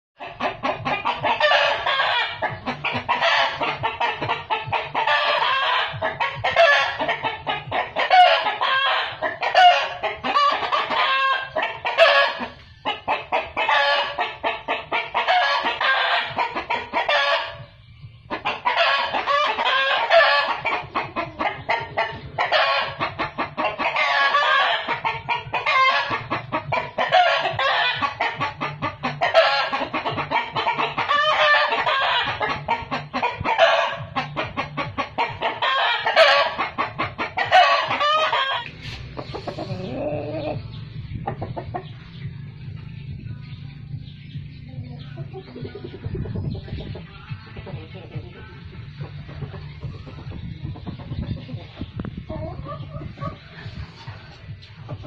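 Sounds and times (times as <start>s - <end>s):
chickens clucking: 0.2s - 55.0s.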